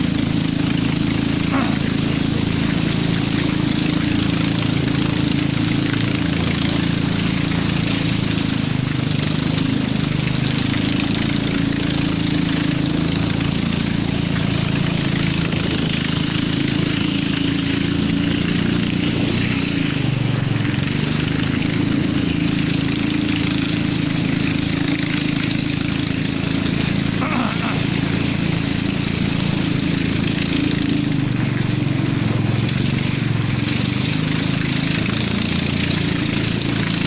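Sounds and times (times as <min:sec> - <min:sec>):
small engine running: 0:00.0 - 0:37.0.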